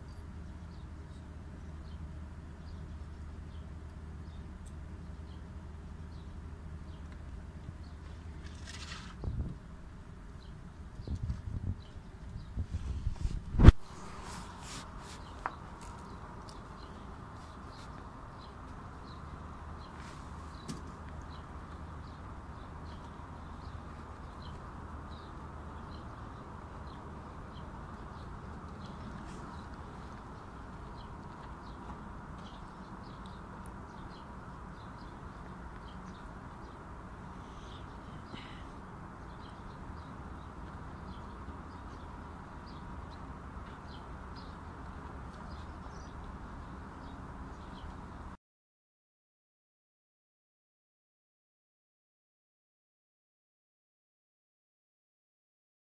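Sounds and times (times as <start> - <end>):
outdoor background hiss: 0.0 - 48.4.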